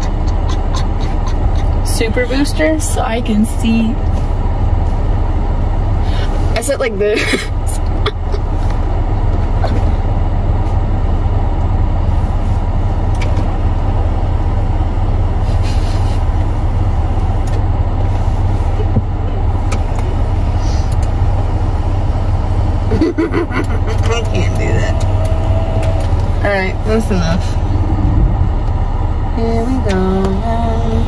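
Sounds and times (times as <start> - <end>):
car cabin low rumble: 0.0 - 31.0.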